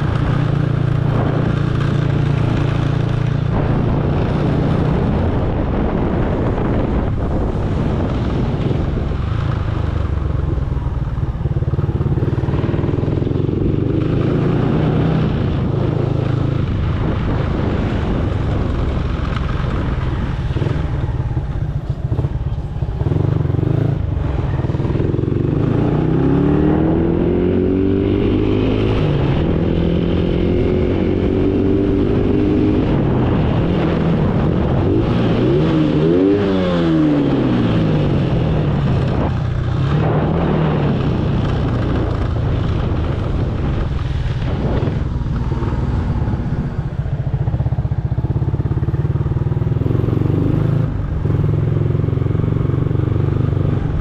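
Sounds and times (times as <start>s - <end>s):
motorcycle engine revving: 0.0s - 54.0s
road and wind noise: 0.0s - 54.0s.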